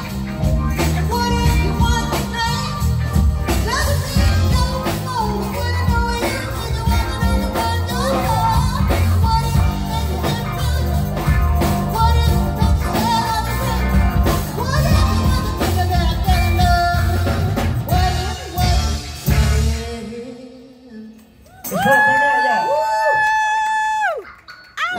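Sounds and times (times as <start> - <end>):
soul band playing: 0.0 - 24.9
woman singing: 0.8 - 21.9.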